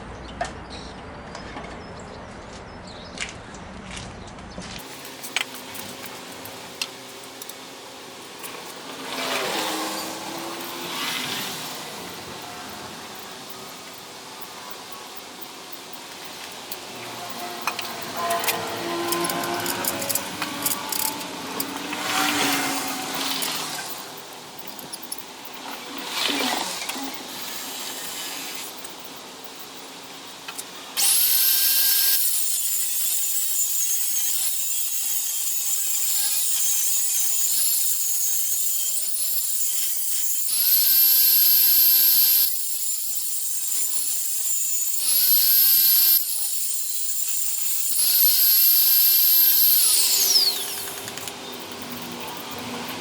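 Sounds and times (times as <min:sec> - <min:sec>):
power tool whining: 0:04.8 - 0:53.0
rough hissing of work: 0:04.8 - 0:53.0.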